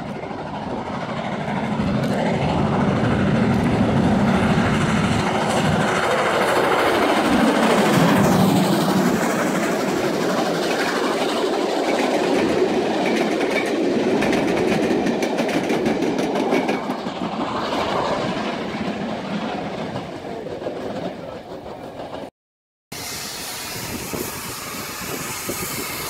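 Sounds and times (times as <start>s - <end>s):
steam locomotive passing: 0.0s - 22.3s, 22.9s - 26.0s
train wagons clattering over rail joints: 0.0s - 22.3s.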